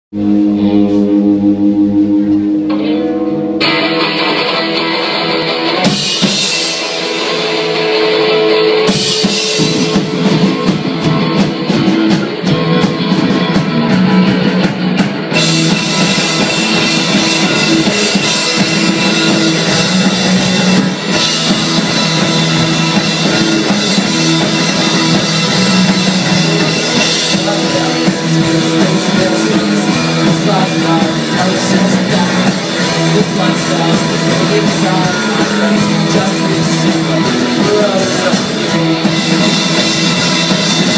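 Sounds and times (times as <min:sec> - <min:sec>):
drum kit: 0:00.1 - 0:40.9
electric guitar: 0:00.1 - 0:40.9
rock band playing live: 0:00.1 - 0:40.9.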